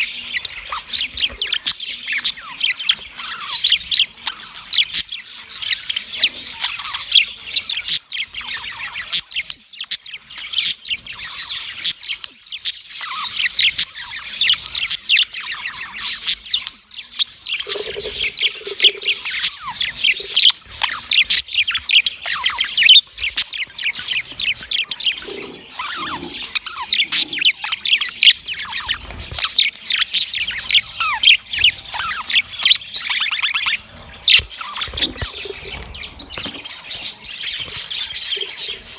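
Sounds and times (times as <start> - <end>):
budgerigar and lovebirds chirping: 0.0 - 38.9.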